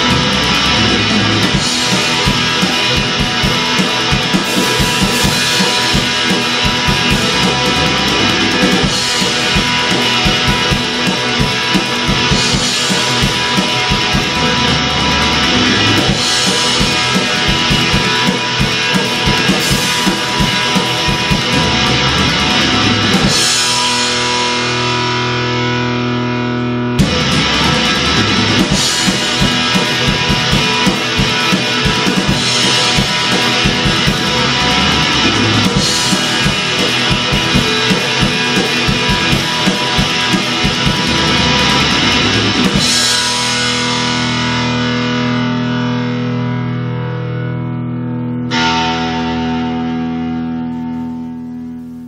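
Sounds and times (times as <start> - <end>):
guitar chord ringing: 0.0 - 52.0
guitar rock music: 0.0 - 52.0.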